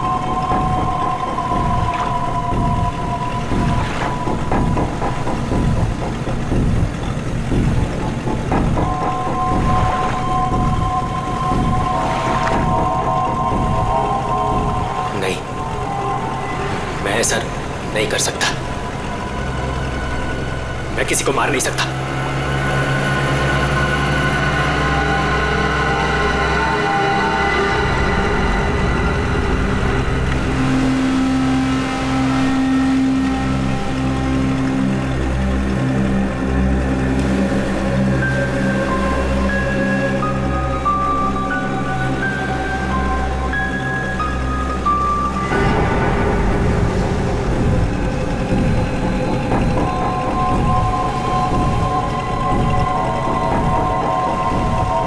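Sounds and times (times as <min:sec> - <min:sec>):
high held tones: 0:00.0 - 0:35.6, 0:36.4 - 0:55.0
low pulsing beat: 0:00.0 - 0:55.0
speedboat engine running: 0:00.0 - 0:55.0.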